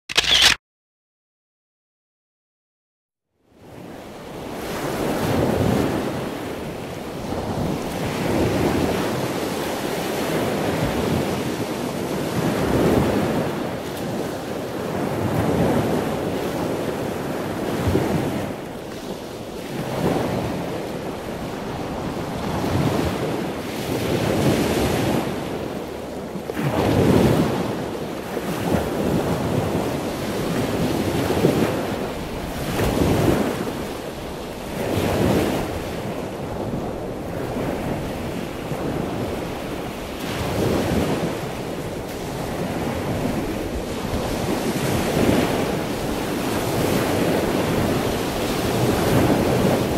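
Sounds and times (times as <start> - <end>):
surf washing ashore: 3.6 - 49.9.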